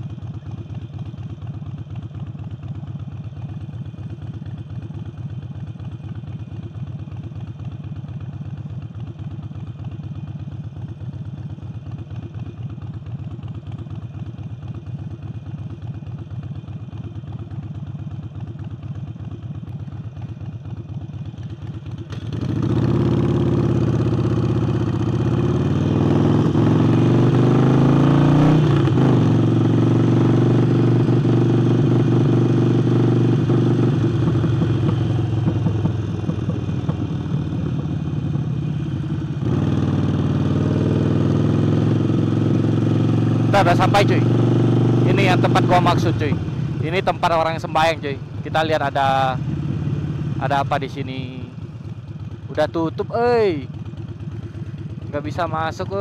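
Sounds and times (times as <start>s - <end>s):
motorcycle engine idling: 0.0s - 27.8s, 28.4s - 56.0s
motorcycle revving and pulling away: 0.1s - 56.0s.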